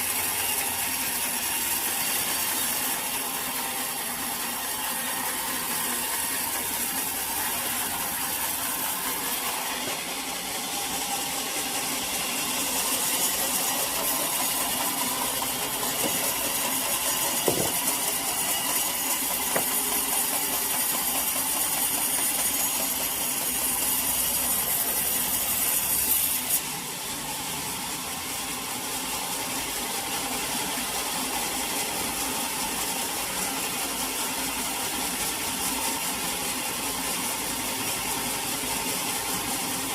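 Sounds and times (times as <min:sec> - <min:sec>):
saw cutting through wood: 0:00.0 - 0:39.9
sawmill machine running: 0:00.0 - 0:39.9.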